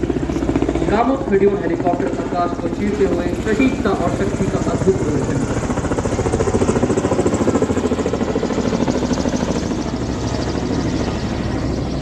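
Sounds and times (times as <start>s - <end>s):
helicopter rotors chopping: 0.0s - 12.0s.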